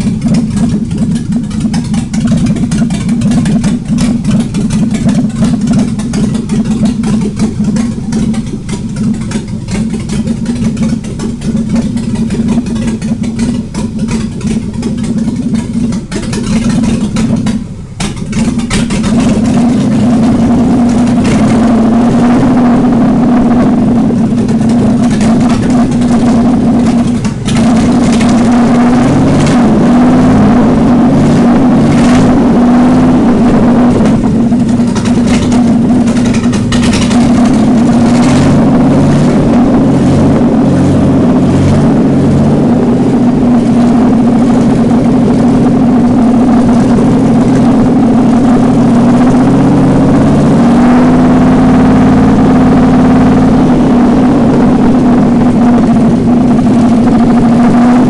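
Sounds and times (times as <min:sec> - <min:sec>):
loud engine fast idle: 0:00.0 - 0:58.0.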